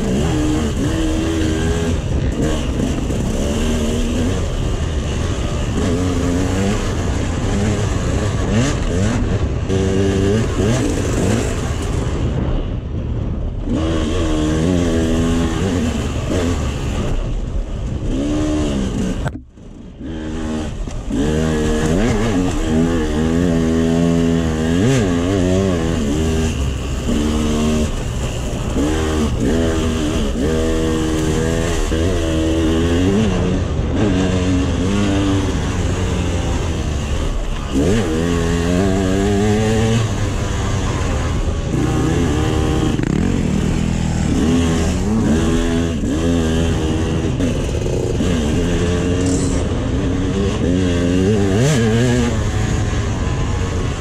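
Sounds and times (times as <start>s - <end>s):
dirt bike engine revving: 0.0s - 12.5s, 13.6s - 54.0s.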